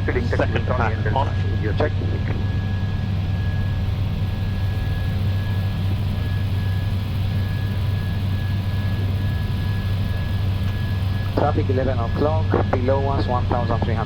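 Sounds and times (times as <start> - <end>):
aircraft engine and airflow drone: 0.0 - 14.0
thin steady high tone: 0.0 - 14.0.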